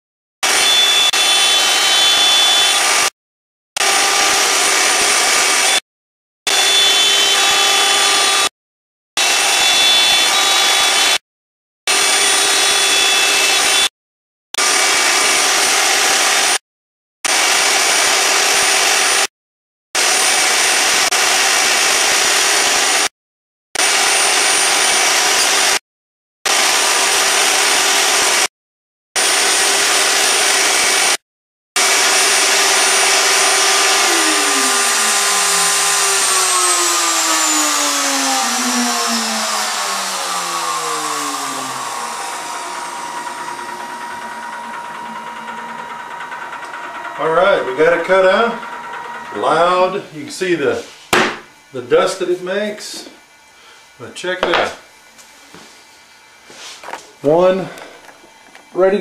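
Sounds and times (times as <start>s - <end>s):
router spindle motor whining: 0.4s - 3.1s, 3.8s - 5.8s, 6.5s - 8.5s, 9.2s - 11.2s, 11.9s - 13.9s, 14.6s - 16.6s, 17.3s - 19.3s, 20.0s - 23.1s, 23.8s - 25.8s, 26.5s - 28.5s, 29.2s - 31.2s, 31.8s - 55.0s
shop vacuum running: 0.4s - 3.1s, 3.8s - 5.8s, 6.5s - 8.5s, 9.2s - 11.2s, 11.9s - 13.9s, 14.6s - 16.6s, 17.3s - 19.3s, 20.0s - 23.1s, 23.8s - 25.8s, 26.5s - 28.5s, 29.2s - 31.2s, 31.8s - 59.0s.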